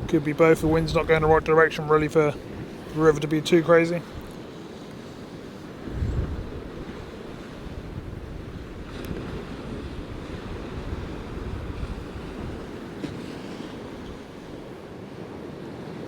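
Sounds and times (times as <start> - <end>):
storm surf breaking: 0.0 - 15.0
wind gusting over microphone: 0.0 - 15.0.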